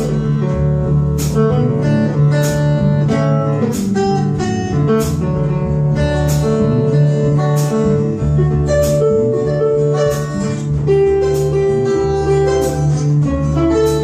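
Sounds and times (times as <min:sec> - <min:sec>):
blues-rock band playing: 0:00.0 - 0:14.0
low bass line: 0:00.0 - 0:14.0
plucked guitar: 0:00.0 - 0:14.0.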